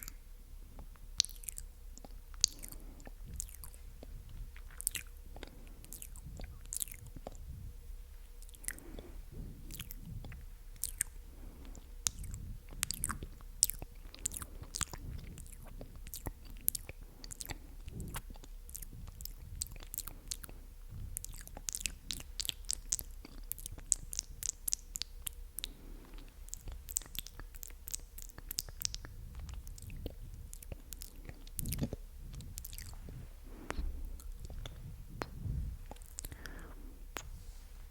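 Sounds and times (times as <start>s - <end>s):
wet lip and tongue clicks: 0.0s - 37.4s.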